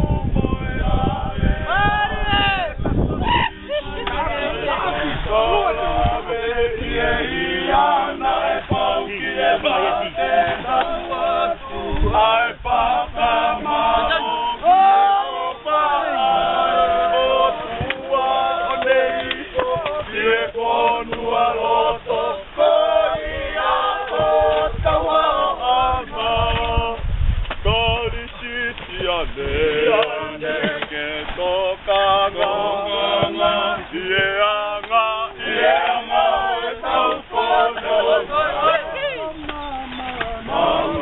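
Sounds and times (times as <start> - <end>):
men singing unaccompanied: 0.0 - 41.0.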